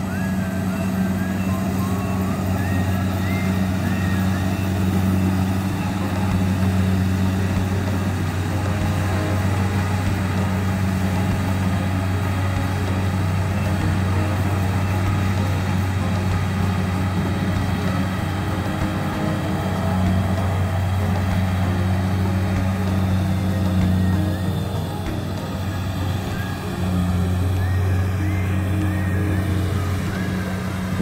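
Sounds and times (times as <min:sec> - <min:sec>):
combine harvester engine humming: 0:00.0 - 0:31.0.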